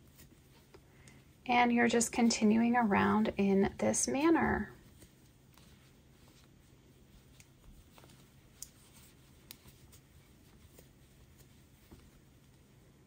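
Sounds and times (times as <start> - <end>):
yarn rustling: 0.0 - 13.0.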